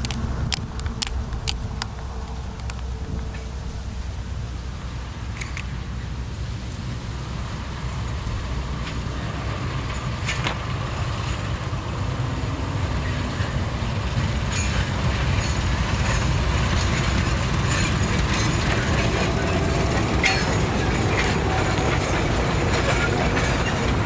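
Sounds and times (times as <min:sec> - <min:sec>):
rail clicks and knocks: 0:00.0 - 0:04.2, 0:08.7 - 0:24.0
diesel train rumbling: 0:00.0 - 0:24.0.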